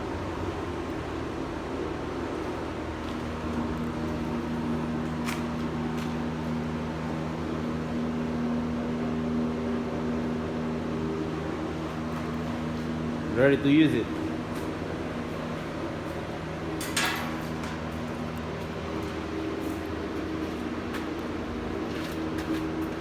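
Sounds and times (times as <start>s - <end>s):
cab heater fan humming: 0.0s - 23.0s.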